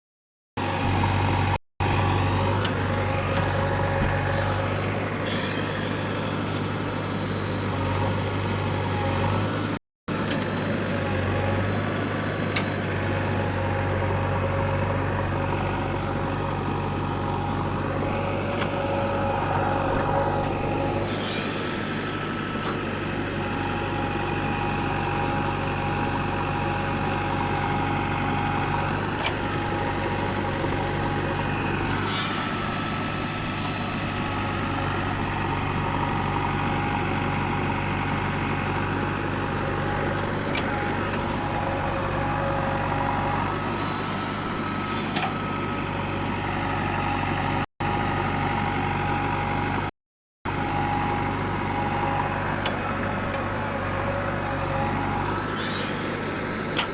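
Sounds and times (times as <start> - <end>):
diesel engine running: 0.6 - 49.9, 50.5 - 56.9.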